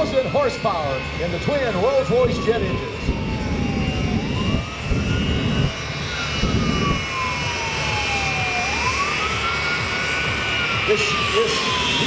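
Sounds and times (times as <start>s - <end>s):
jet engines whining: 0.0s - 12.0s
siren wailing: 0.0s - 12.0s.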